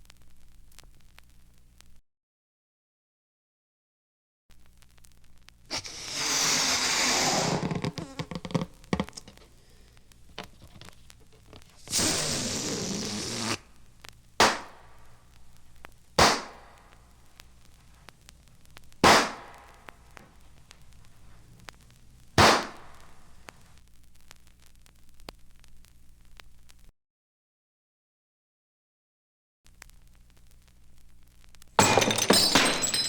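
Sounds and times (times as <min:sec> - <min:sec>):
hissing bursts with crackle: 0:00.0 - 0:02.0, 0:04.5 - 0:26.9, 0:29.7 - 0:31.8.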